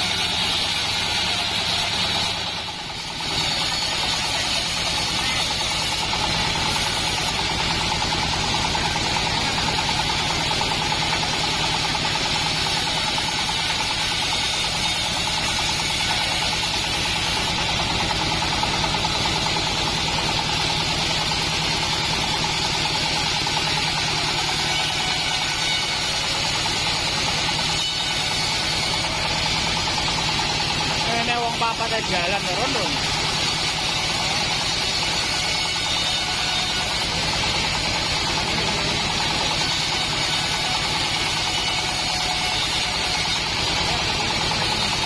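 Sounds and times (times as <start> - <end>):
bandsaw mill engine drone: 0.0 - 45.0.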